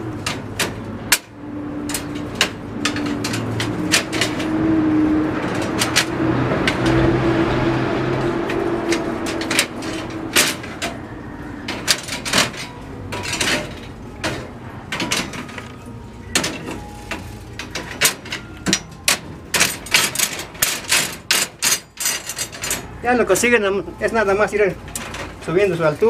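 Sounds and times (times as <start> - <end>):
passing vehicle engine: 0.0 - 26.0
steel rebar clinking and rattling: 0.2 - 4.6, 5.4 - 26.0.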